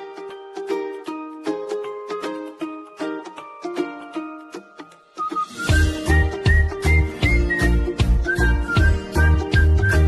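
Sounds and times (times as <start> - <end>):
upbeat plucked ukulele tune: 0.0 - 10.0.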